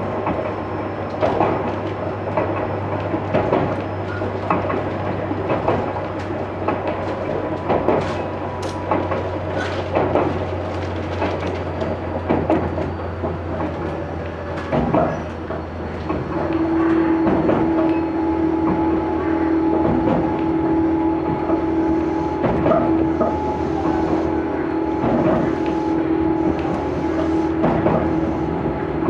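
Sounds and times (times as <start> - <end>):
train low rumble: 0.0 - 29.0
wheels clacking on track: 0.0 - 29.0.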